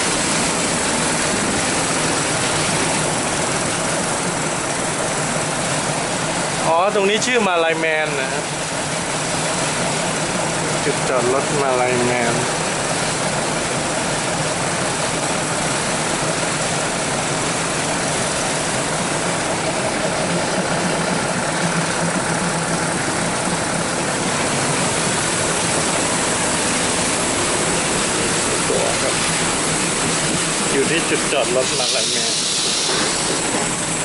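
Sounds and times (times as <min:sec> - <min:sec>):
diesel train engine idling: 0:00.0 - 0:34.0.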